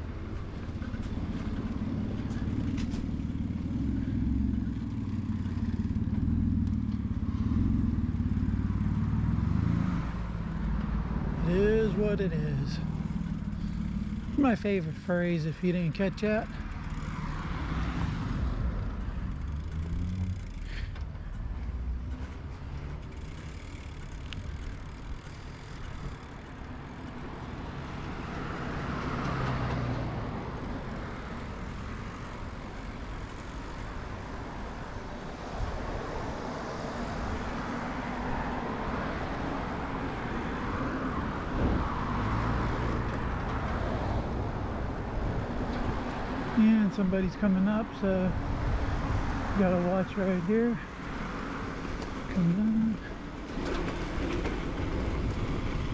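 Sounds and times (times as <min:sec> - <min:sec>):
bicycle rolling noise: 0:00.0 - 0:55.9
road traffic passing: 0:00.0 - 0:55.9.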